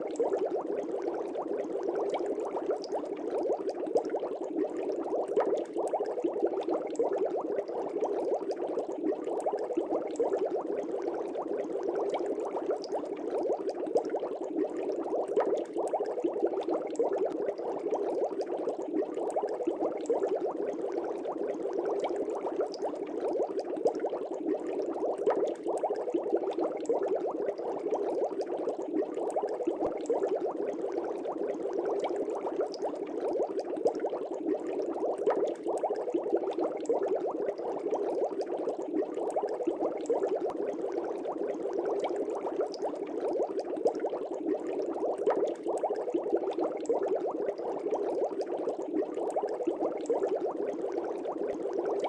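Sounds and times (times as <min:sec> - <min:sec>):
aquarium air bubbling: 0:00.0 - 0:52.0.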